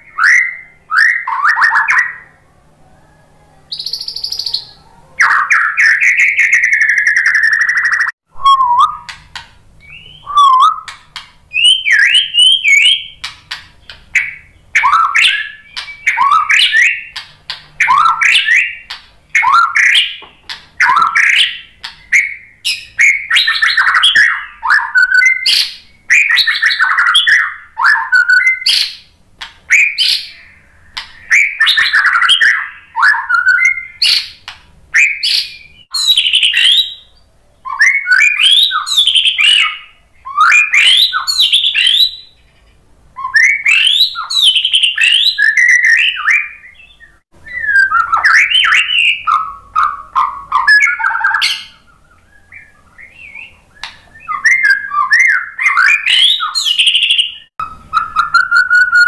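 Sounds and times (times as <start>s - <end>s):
bird singing whistled phrases: 0.0s - 2.4s, 3.7s - 9.2s, 9.8s - 13.3s, 13.9s - 20.2s, 20.8s - 29.0s, 29.7s - 42.4s, 43.2s - 59.0s.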